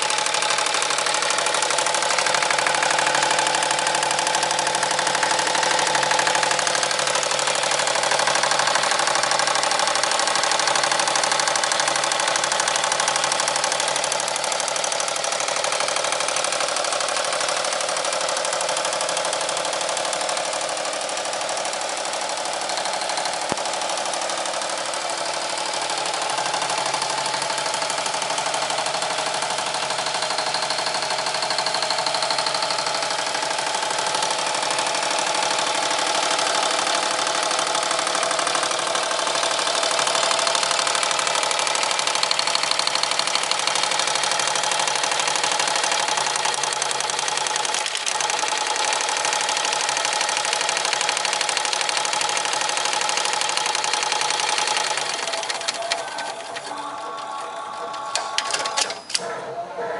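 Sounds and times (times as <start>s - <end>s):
embroidery machine clattering: 0.0s - 59.6s.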